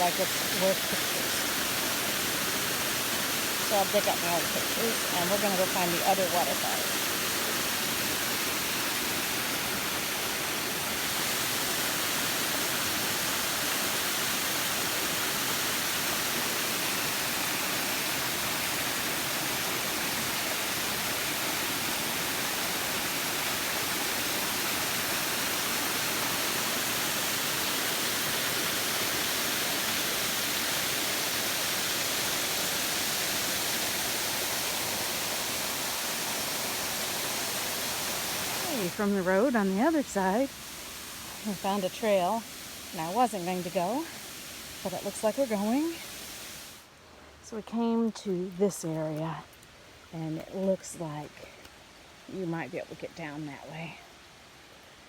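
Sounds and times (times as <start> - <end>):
waterfall rushing hiss: 0.0 - 47.3, 48.9 - 55.0.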